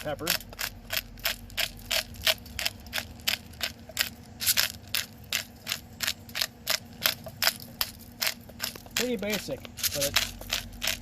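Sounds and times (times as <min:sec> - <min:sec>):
pepper mill grinding: 0:00.0 - 0:11.0.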